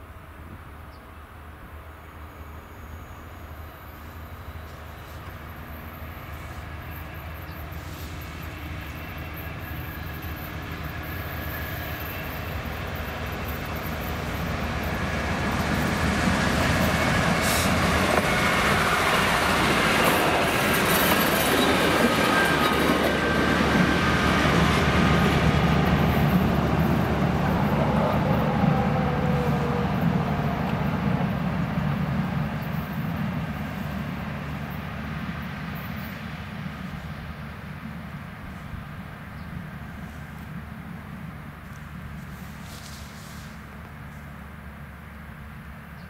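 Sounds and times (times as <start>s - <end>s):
passenger train rail noise: 0.0s - 46.0s.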